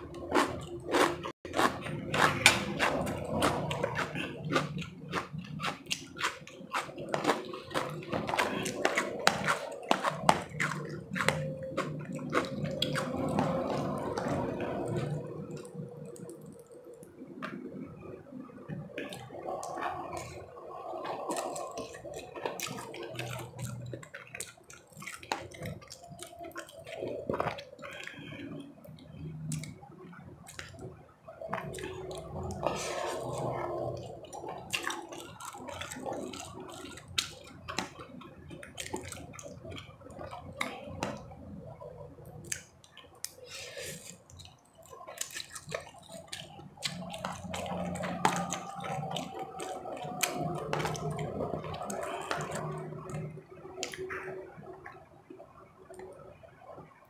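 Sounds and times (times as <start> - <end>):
wet chewing and mouth smacking: 0.0 - 18.1, 18.7 - 55.0.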